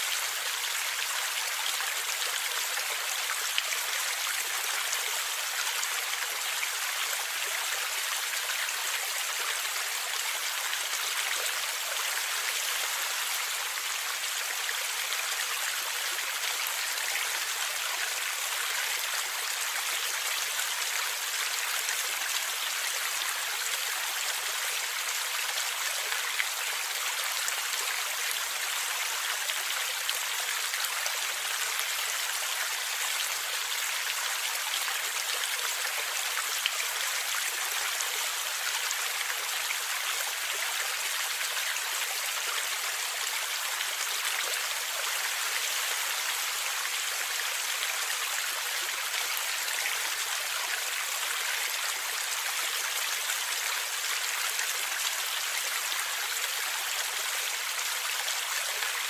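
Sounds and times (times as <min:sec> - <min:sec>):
stream flowing and gurgling: 0:00.0 - 0:59.0.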